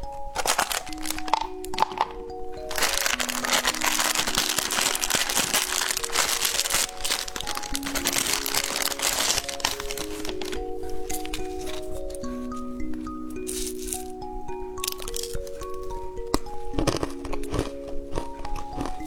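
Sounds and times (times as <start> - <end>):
background music: 0.0 - 19.0
plastic packaging crinkling: 0.0 - 19.0.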